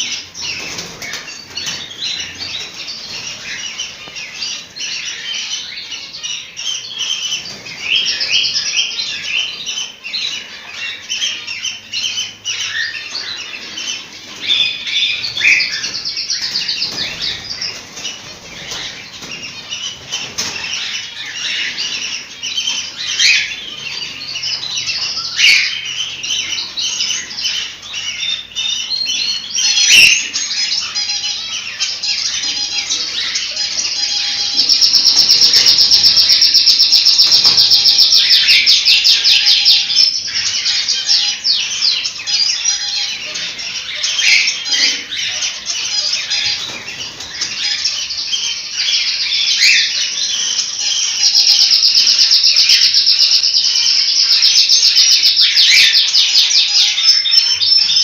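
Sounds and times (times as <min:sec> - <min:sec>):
cockatiels chirping and calling: 0:00.0 - 0:58.0.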